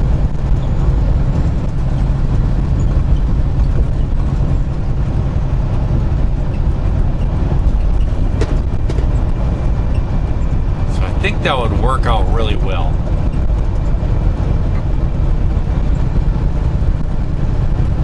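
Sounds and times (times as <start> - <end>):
truck engine and tyre drone: 0.0 - 18.0.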